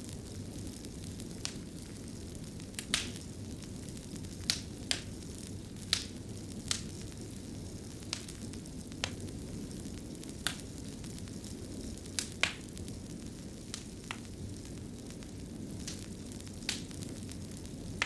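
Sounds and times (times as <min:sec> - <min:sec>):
fire crackling: 0:00.0 - 0:18.0
sharp pops of fire: 0:00.1 - 0:18.0.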